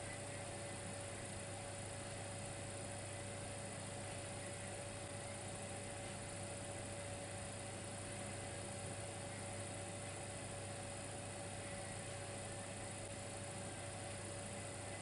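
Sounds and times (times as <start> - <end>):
electric fireplace heater humming: 0.0 - 15.0.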